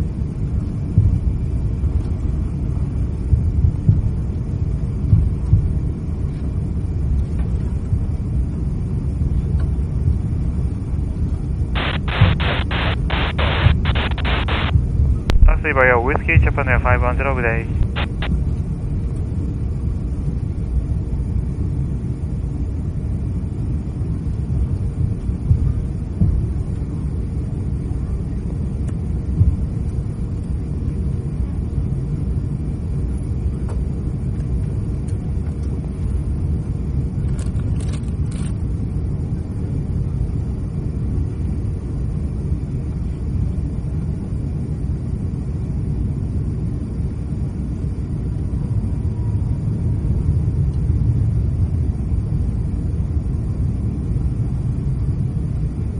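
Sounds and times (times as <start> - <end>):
airliner cabin low rumble: 0.0 - 55.9
faint steady hum: 0.0 - 55.9.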